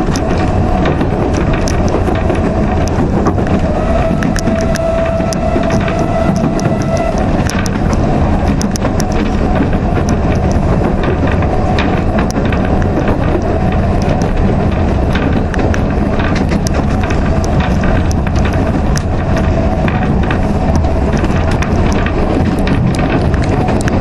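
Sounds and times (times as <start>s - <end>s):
train carriage rumble and rattle: 0.0s - 24.0s
wheels clicking and knocking: 0.0s - 24.0s.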